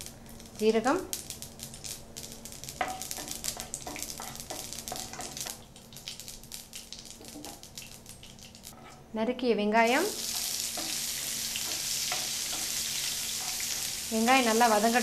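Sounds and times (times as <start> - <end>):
seeds spluttering in hot oil: 0.0 - 8.8, 9.8 - 15.0.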